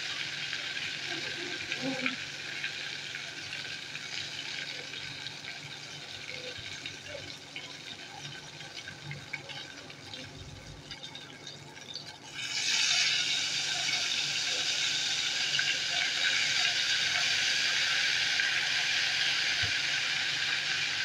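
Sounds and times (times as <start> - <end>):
batter frying in hot oil: 0.0 - 21.0.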